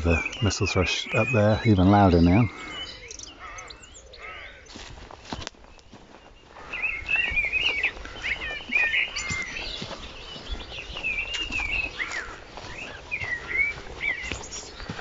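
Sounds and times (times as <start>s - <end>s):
songbird singing warbled phrases: 0.0s - 15.0s.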